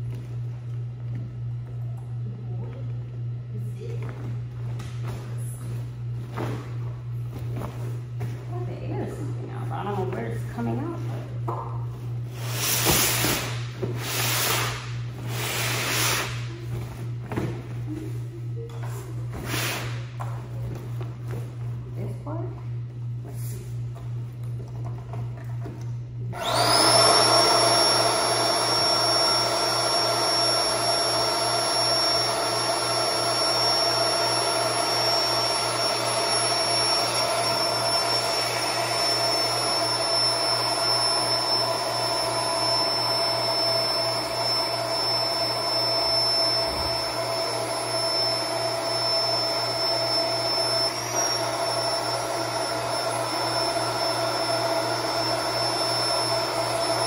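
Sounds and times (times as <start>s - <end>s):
electric air pump whining: 4.0s - 21.5s, 25.9s - 57.0s.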